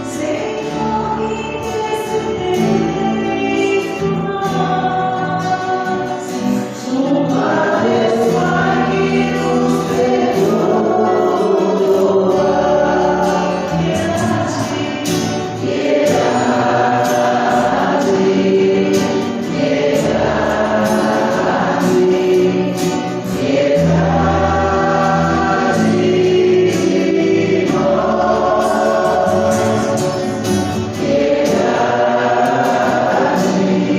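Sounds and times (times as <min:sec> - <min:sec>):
choir singing gospel song: 0:00.0 - 0:33.9.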